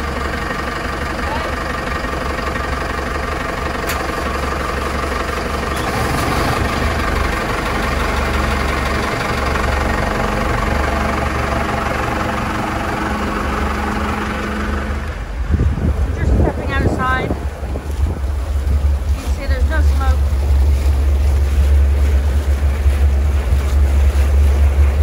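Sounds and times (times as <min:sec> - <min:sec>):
marine diesel engine idling: 0:00.0 - 0:25.0.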